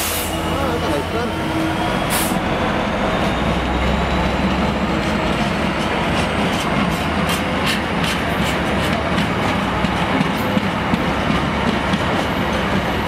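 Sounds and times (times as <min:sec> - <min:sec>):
diesel locomotive engine drone: 0:00.0 - 0:13.0
freight wagons rumbling and rattling: 0:02.5 - 0:13.0.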